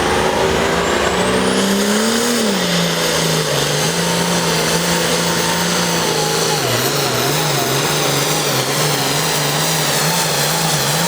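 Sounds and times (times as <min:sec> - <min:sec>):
tractor engine running hard: 0:00.0 - 0:11.0.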